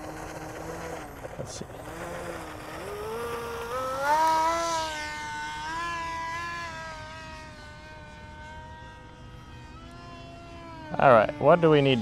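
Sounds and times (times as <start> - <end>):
model airplane motor whining: 0.0 - 12.0.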